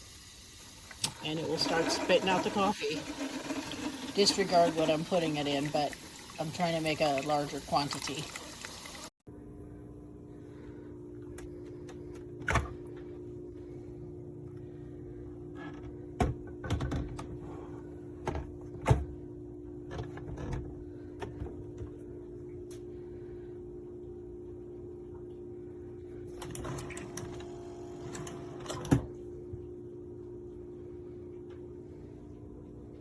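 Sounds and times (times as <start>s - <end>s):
coffee maker pump humming: 0.0s - 33.0s.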